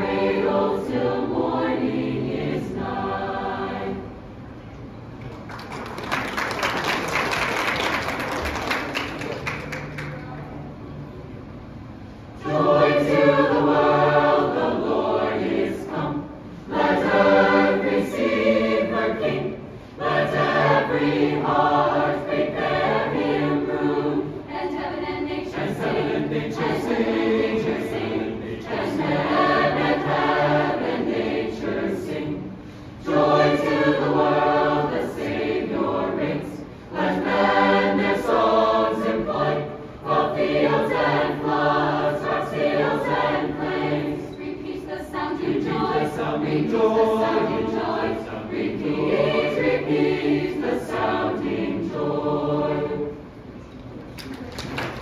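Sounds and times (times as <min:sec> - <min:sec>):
choir singing a cappella: 0:00.0 - 0:04.4, 0:11.9 - 0:53.6.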